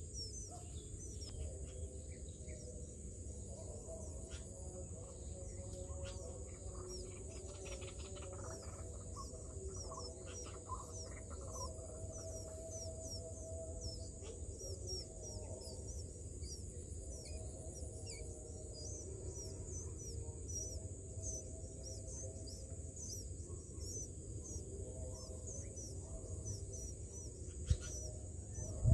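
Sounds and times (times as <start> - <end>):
nestlings begging chirps: 0.0 - 28.9.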